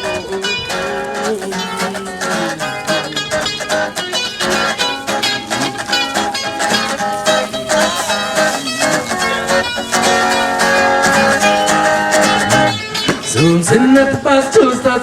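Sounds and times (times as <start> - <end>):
acoustic guitar strumming: 0.0 - 15.0
lead instrument bending notes: 0.0 - 15.0.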